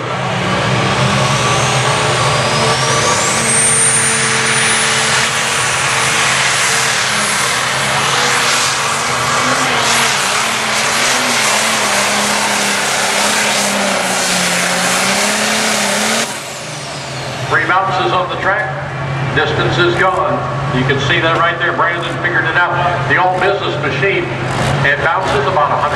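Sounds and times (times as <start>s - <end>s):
diesel engine at full load: 0.0s - 25.9s
turbocharger whine: 0.0s - 25.9s.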